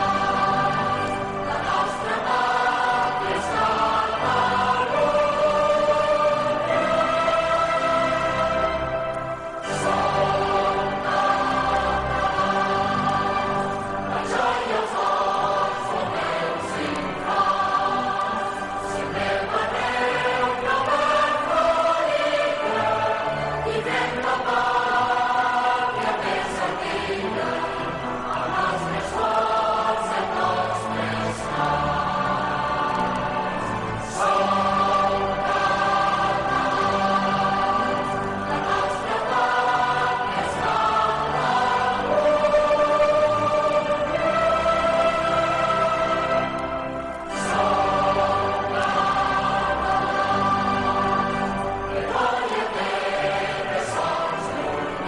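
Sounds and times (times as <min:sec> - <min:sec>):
choir singing sustained chords: 0:00.0 - 0:55.0.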